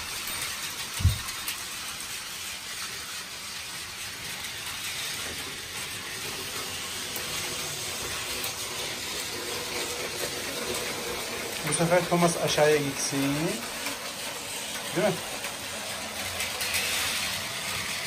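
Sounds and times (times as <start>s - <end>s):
toy trains whirring on track: 0.0s - 18.0s.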